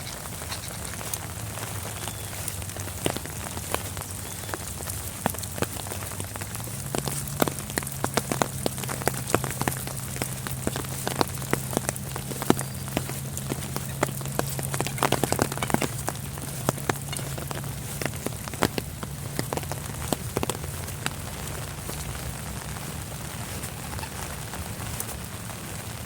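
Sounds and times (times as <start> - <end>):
rain falling: 0.0 - 26.0
sharp raindrop taps: 0.0 - 26.0.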